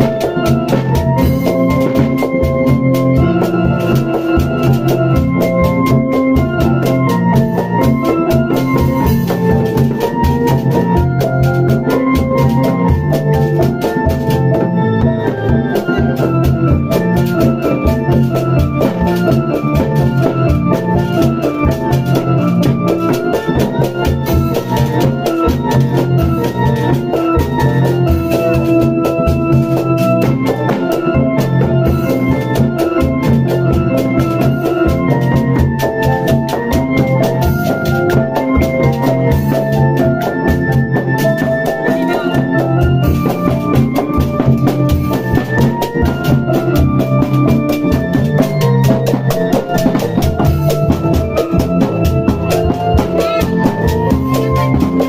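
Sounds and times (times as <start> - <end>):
fast barrel drumming: 0.0 - 55.0
melody over loudspeaker: 0.0 - 55.0.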